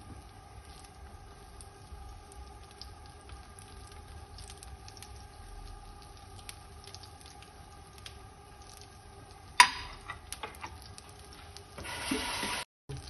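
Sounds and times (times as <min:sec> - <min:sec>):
omelette sizzling in a pan: 0:00.0 - 0:13.0.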